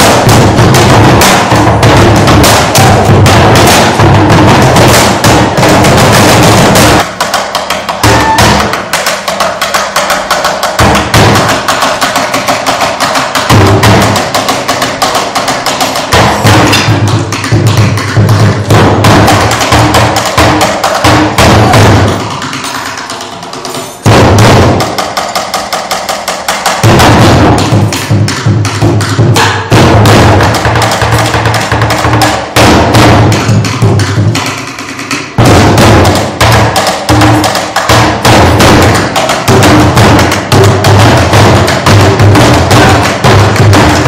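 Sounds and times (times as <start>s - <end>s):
barrel drums rhythm: 0.0s - 44.0s.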